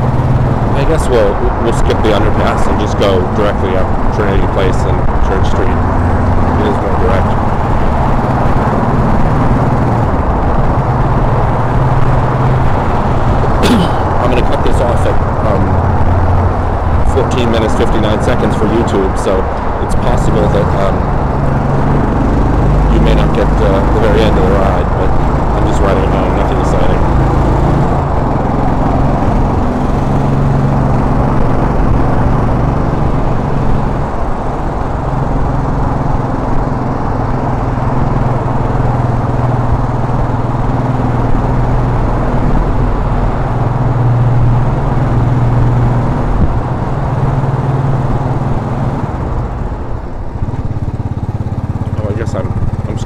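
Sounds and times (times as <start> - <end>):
motorcycle engine running: 0.0 - 53.0
road and wind noise: 0.0 - 53.0.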